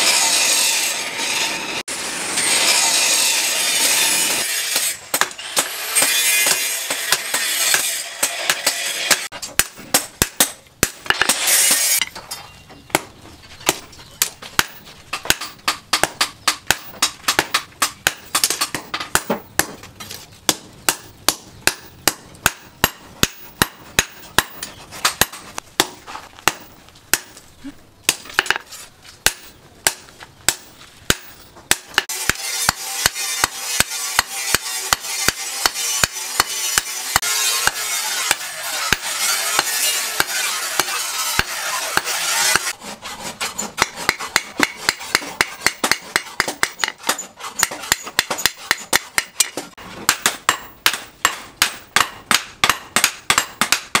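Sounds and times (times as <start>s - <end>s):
hammer striking hot steel on anvil: 2.4s - 12.2s, 13.7s - 19.7s, 20.5s - 27.4s, 29.2s - 42.8s, 43.8s - 54.0s.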